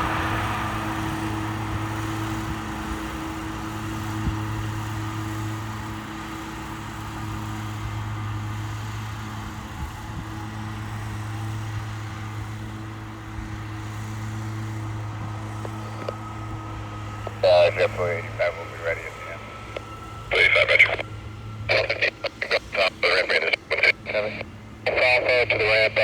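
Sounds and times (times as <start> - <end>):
steady engine hum: 0.0 - 26.0.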